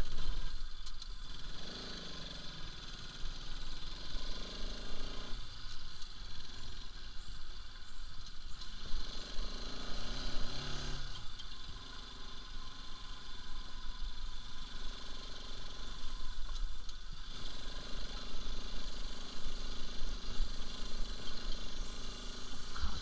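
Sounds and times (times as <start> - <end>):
low rumble of road and wind: 0.0 - 23.0
motorcycle engine running: 0.0 - 23.0.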